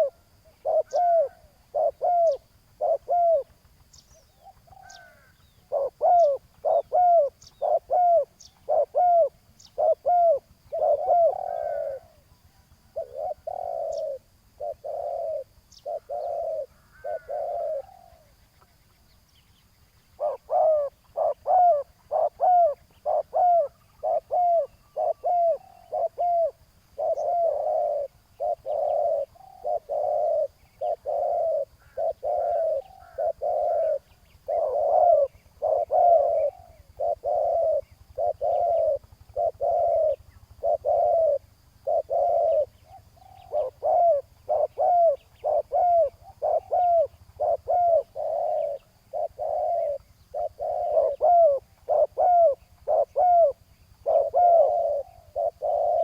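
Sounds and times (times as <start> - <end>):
doves cooing: 0.0 - 18.8, 20.0 - 56.0.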